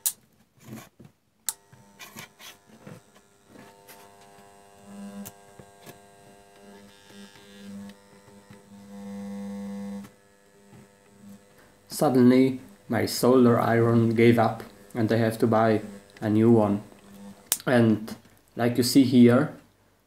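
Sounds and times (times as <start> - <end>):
soldering gun electric hum: 1.5 - 18.5.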